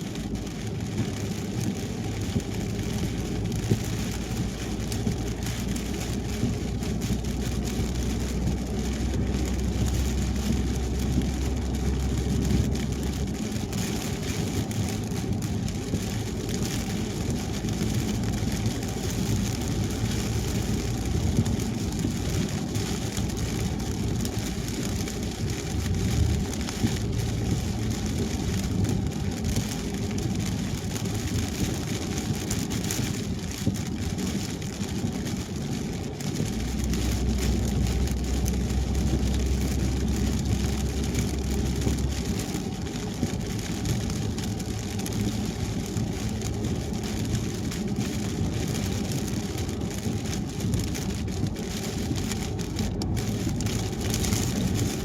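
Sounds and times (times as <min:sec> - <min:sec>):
low car hum: 0:00.0 - 0:55.0
rain on car: 0:00.0 - 0:55.0
tyre and road noise: 0:00.0 - 0:55.0.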